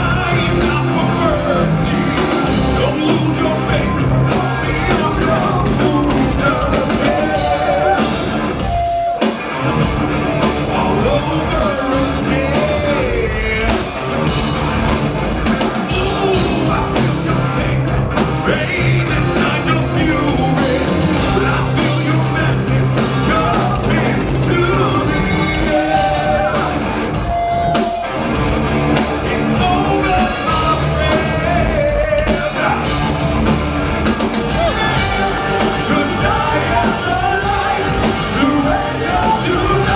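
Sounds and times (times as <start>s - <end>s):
bass guitar: 0.0s - 39.9s
drums: 0.0s - 39.9s
keyboards: 0.0s - 39.9s
male lead singer: 0.0s - 39.9s.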